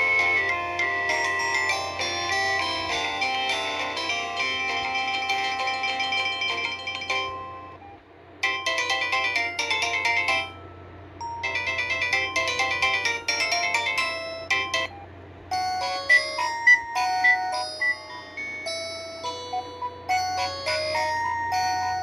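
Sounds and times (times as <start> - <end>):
bright chiming ringtone phrase: 0.0 - 7.8, 8.4 - 14.9, 15.5 - 22.0
polyphonic ringtone melodies: 0.0 - 7.8, 8.4 - 22.0.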